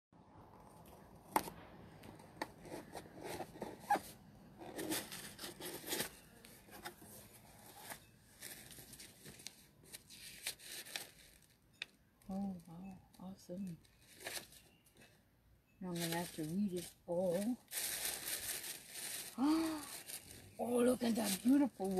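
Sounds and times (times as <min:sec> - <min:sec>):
paper and tissue rustling: 0:02.6 - 0:11.7, 0:12.3 - 0:15.2, 0:15.9 - 0:21.9.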